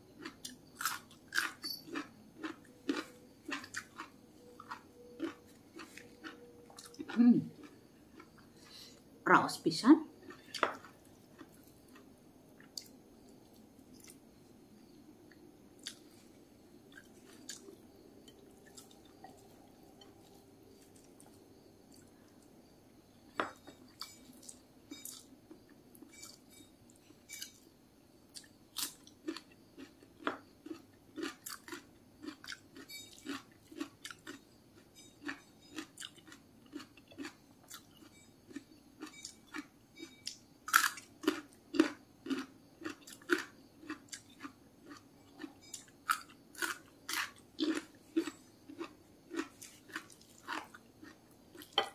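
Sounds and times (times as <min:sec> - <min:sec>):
crunchy chewing clicks: 0:00.1 - 0:09.0, 0:10.2 - 0:22.5, 0:23.3 - 0:27.7, 0:28.3 - 0:51.9
chewing and mouth sounds: 0:00.2 - 0:08.7, 0:10.2 - 0:14.2, 0:15.8 - 0:16.2, 0:16.9 - 0:22.2, 0:23.7 - 0:27.6, 0:28.3 - 0:51.9.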